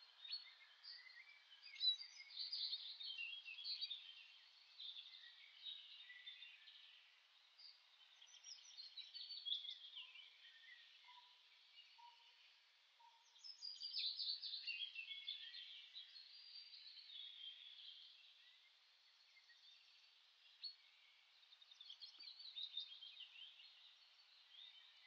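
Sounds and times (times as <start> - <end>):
faint birdsong chirps and trills: 0.0 - 25.0.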